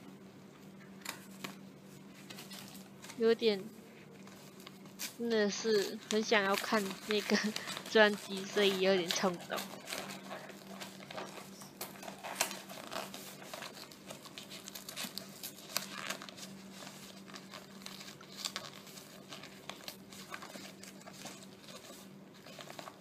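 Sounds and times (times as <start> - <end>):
faint steady hum: 0.0 - 23.0
plastic wrap crinkling: 0.7 - 23.0.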